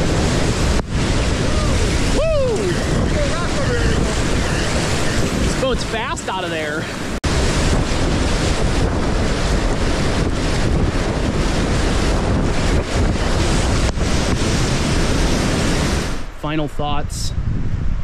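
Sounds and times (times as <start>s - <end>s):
kayak bow splashing through waves: 0.0s - 16.3s
whitewater rushing: 0.0s - 16.7s.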